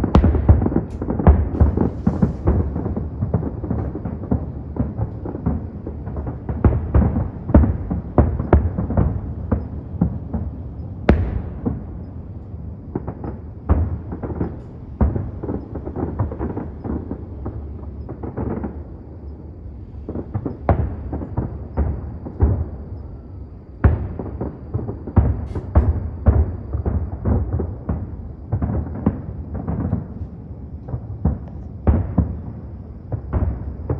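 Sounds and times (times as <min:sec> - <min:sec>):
fireworks booms and bangs: 0:00.0 - 0:33.9.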